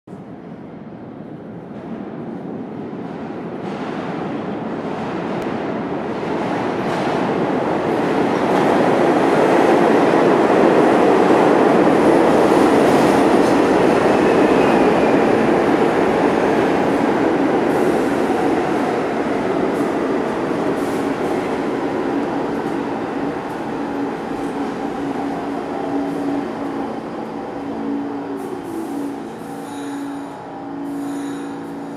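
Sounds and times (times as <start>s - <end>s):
subway train wheels and motors: 0.1s - 31.9s.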